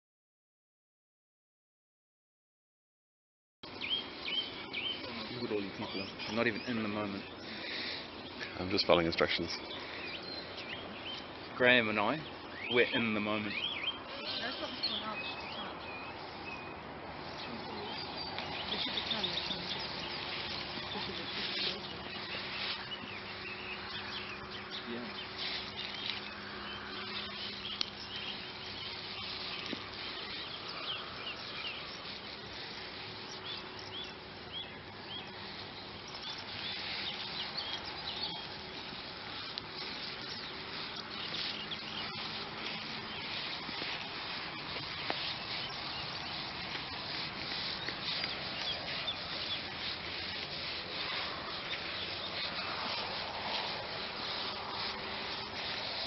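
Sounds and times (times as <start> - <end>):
bird chirps: 3.6 - 56.0.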